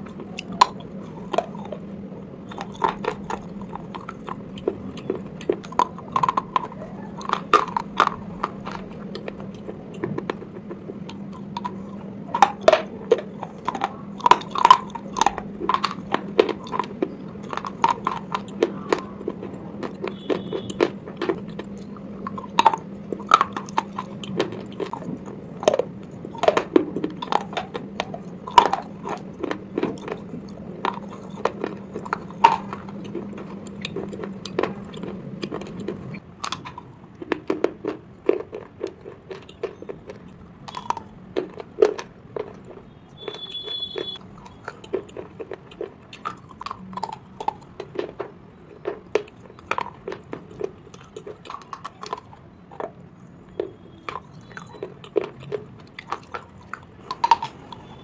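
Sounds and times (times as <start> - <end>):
crunching hard pieces in mouth: 0.0 - 58.0.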